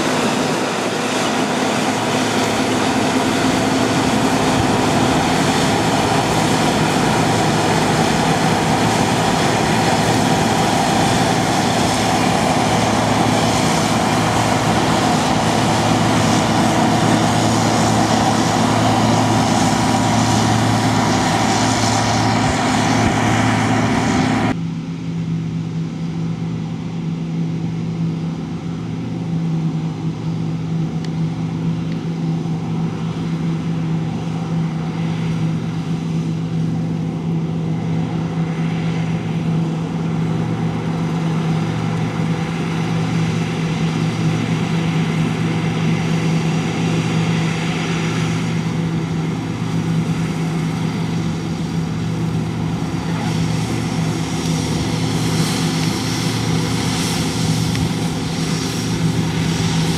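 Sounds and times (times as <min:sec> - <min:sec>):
diesel engine running steadily: 0:00.0 - 0:59.9.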